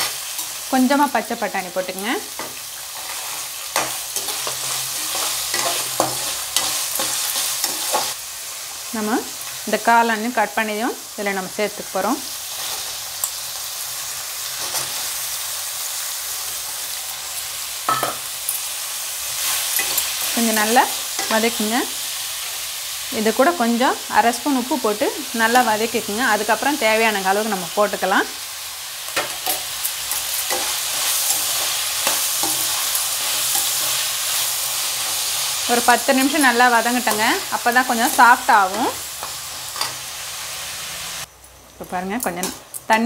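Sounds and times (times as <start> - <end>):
vegetables sizzling in hot oil: 0.0 - 43.0.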